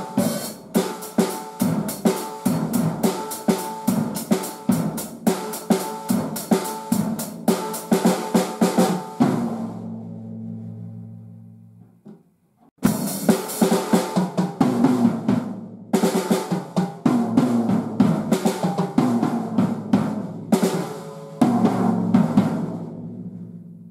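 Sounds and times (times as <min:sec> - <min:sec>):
drum kit fast hits: 0:00.0 - 0:10.0, 0:12.8 - 0:23.9.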